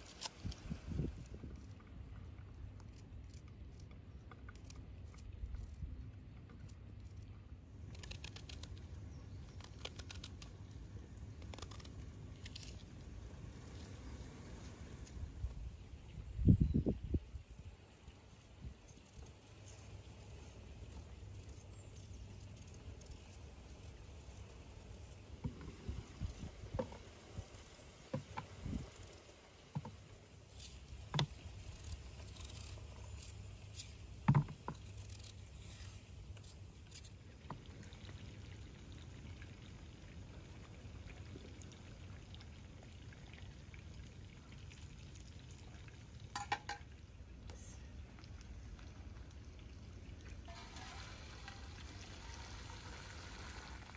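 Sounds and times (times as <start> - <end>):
low outdoor background: 0.0 - 53.9.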